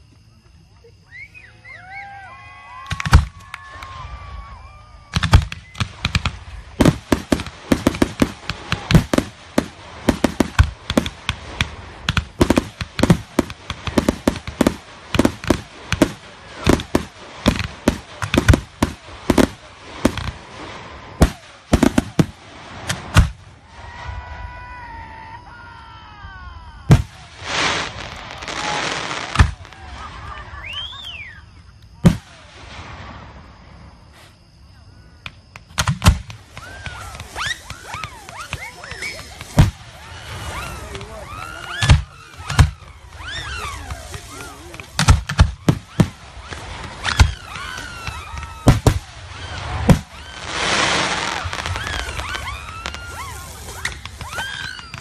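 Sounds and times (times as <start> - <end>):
firework crackling: 1.8 - 34.4, 35.3 - 55.0.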